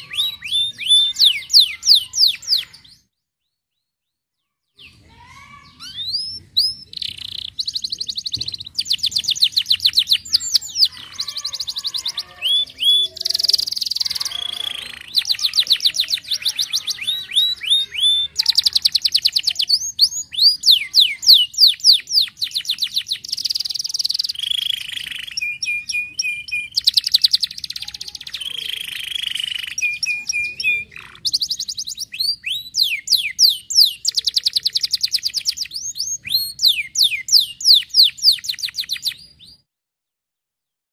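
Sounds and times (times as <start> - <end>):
canary singing trills: 0.0 - 3.6, 4.4 - 39.7.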